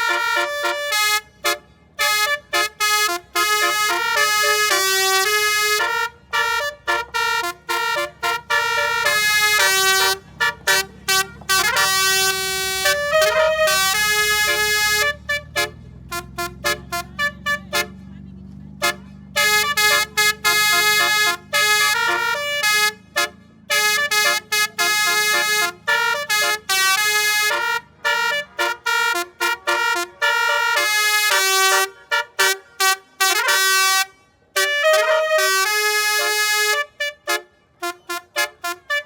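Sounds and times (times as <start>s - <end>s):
bus musical horn playing a tune: 0.0s - 39.0s
low engine hum: 0.0s - 39.0s.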